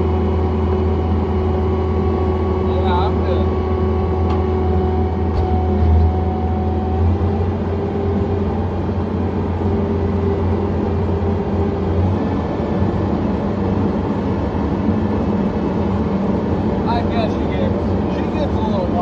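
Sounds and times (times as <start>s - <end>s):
skid steer engine running: 0.0s - 19.0s.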